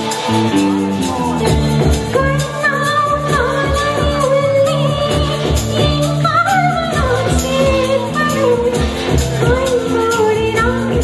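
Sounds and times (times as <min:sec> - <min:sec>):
electric bass: 0:00.0 - 0:11.0
steady drum beat: 0:00.0 - 0:11.0
woman singing: 0:01.4 - 0:11.0.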